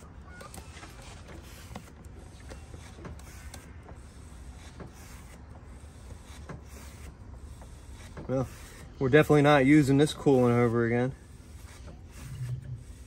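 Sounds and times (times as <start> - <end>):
transfer pump humming: 0.0 - 13.0.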